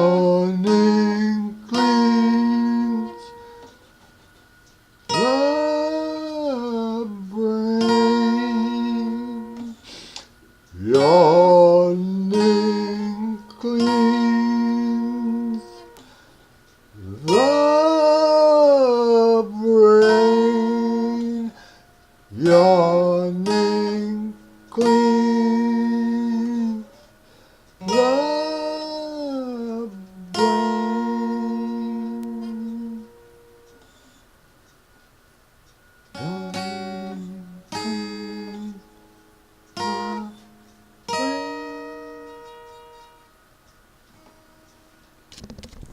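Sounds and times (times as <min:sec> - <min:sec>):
person singing wordless notes: 0:00.0 - 0:03.8, 0:05.1 - 0:10.1, 0:10.7 - 0:16.2, 0:16.9 - 0:33.8, 0:36.1 - 0:39.0, 0:39.7 - 0:42.8.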